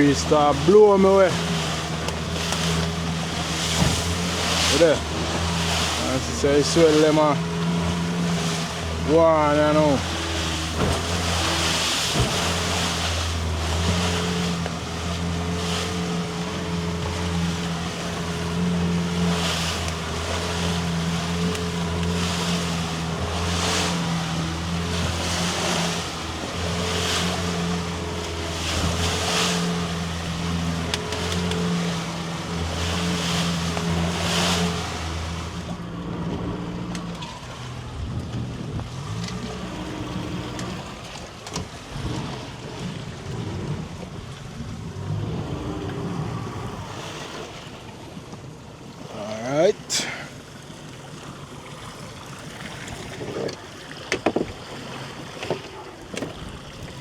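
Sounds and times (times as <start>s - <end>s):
boat motor running: 0.0s - 57.0s
water splashing along hull: 0.0s - 57.0s
wind: 0.0s - 57.0s.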